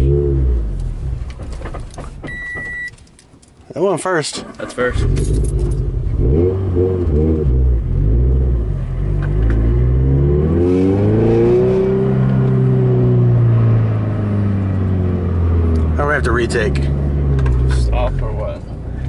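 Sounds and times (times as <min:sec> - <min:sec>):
car engine revving: 0:00.0 - 0:01.8, 0:04.4 - 0:19.0.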